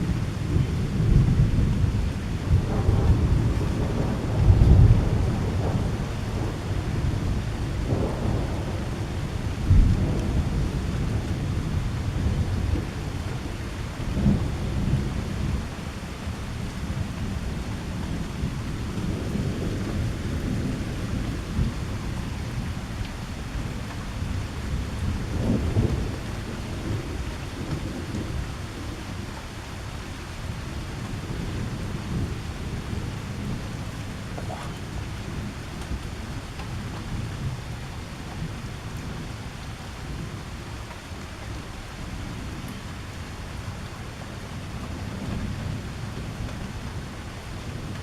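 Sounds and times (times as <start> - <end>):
thunder rumbling: 0.0 - 40.6
steady rain: 0.0 - 48.0.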